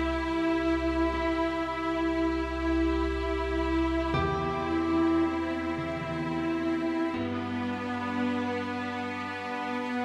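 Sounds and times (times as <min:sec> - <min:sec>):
slow music of held chords: 0:00.0 - 0:10.0.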